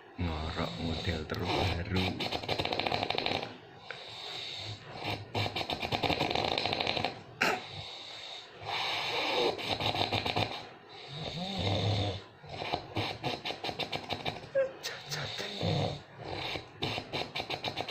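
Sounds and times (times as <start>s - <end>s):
person snoring loudly: 0.6s - 3.6s, 4.9s - 7.8s, 8.6s - 17.9s.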